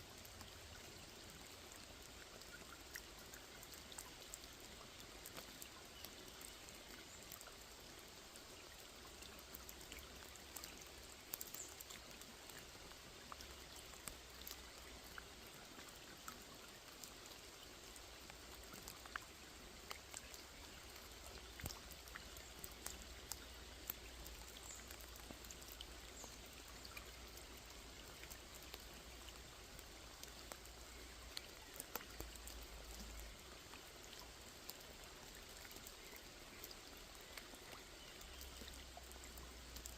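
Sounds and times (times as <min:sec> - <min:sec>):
rain hissing on a lake: 0:00.0 - 0:39.9
raindrop ticks: 0:00.1 - 0:39.9.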